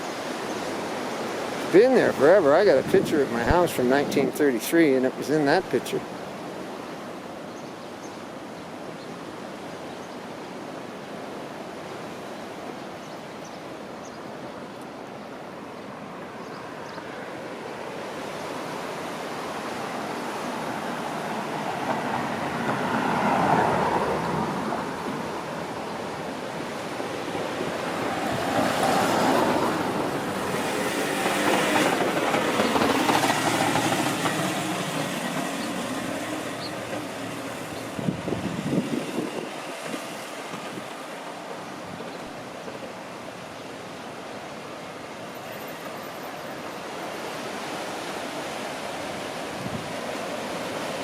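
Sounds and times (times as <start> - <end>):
vehicles passing: 0.0 - 7.4, 15.6 - 51.0
road traffic noise: 0.0 - 51.0.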